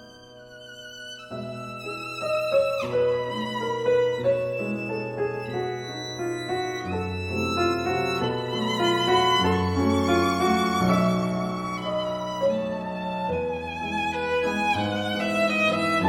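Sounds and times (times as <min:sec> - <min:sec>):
bowed string melody: 0:00.0 - 0:16.0.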